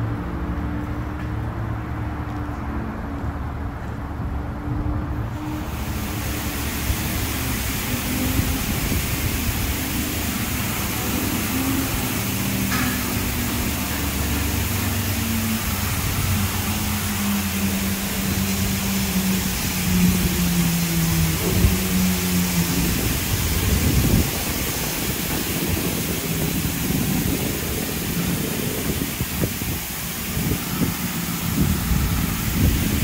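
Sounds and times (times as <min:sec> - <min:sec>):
pump and motor hum: 0:00.0 - 0:33.0
water spraying onto car: 0:05.4 - 0:33.0.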